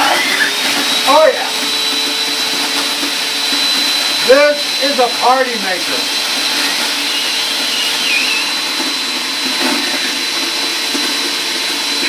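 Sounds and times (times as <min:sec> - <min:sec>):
blower fan whining: 0:00.0 - 0:12.0.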